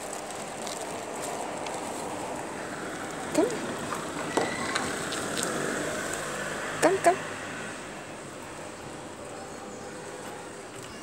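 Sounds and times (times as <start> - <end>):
street background noise: 0.0 - 11.0.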